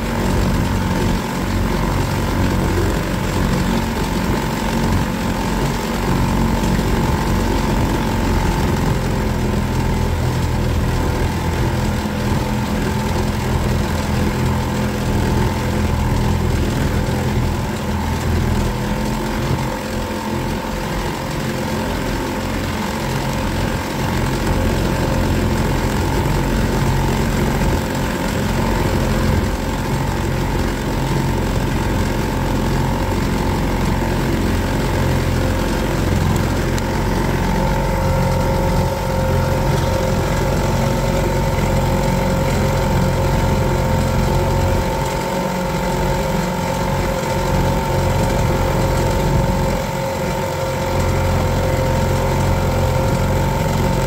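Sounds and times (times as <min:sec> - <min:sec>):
boat motor whine: 0:00.0 - 0:54.0
low motor drone: 0:00.0 - 0:54.0.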